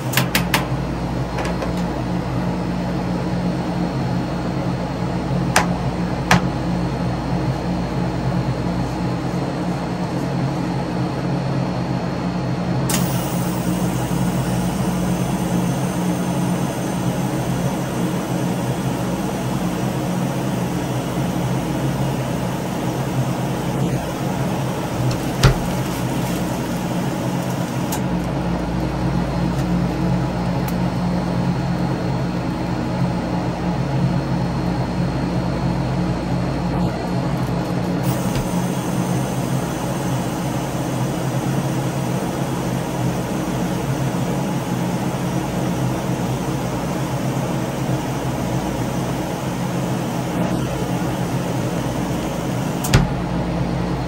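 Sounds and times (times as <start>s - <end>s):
steady electric hum: 0.0s - 54.0s.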